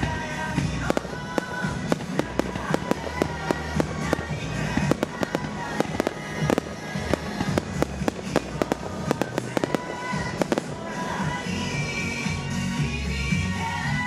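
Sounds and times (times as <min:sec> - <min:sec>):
fireworks bangs and cracks: 0:00.0 - 0:12.5
music with bass line: 0:00.0 - 0:14.0.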